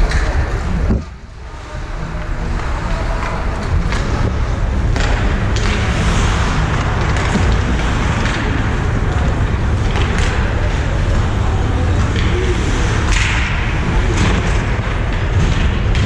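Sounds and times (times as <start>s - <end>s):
hockey sticks clacking: 0.0s - 16.0s
rink noise rumble: 0.0s - 16.0s.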